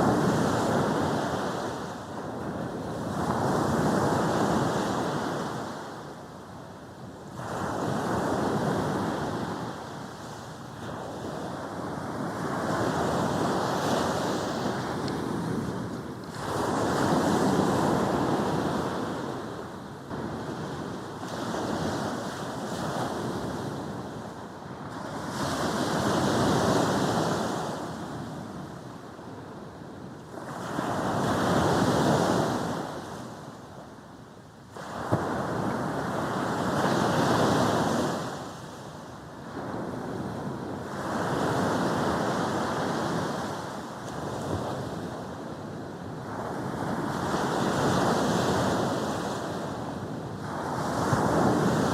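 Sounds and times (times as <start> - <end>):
sea waves breaking on a beach: 0.0 - 51.9.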